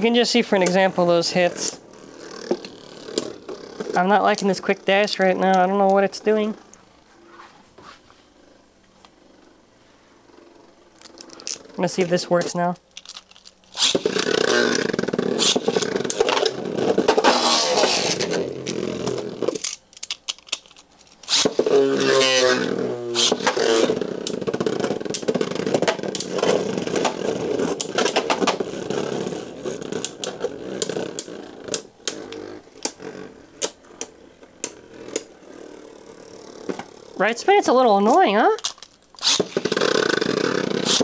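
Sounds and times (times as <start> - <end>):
spinning tops whirring and scraping: 0.0 - 7.4, 10.1 - 41.0.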